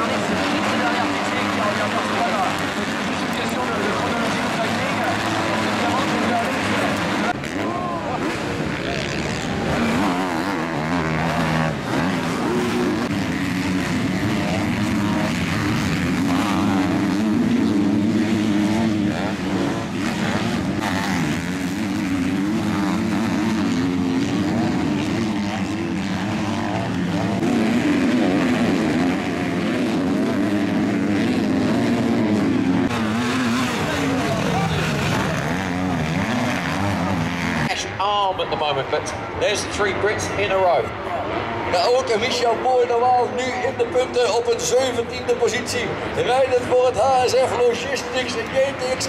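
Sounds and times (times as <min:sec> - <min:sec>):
motocross bike engines revving: 0:00.0 - 0:49.0.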